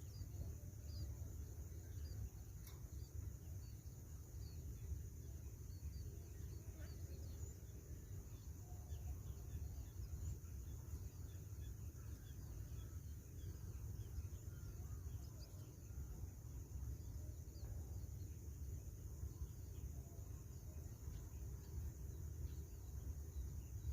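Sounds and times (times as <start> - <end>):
insects droning: 0.0 - 23.9.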